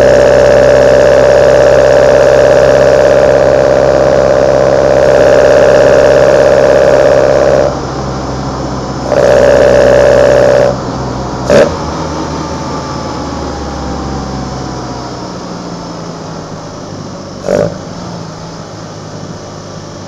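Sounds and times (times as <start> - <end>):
engine revving blip: 0.0 - 15.6, 17.4 - 18.3
engine intake drone: 0.0 - 20.0.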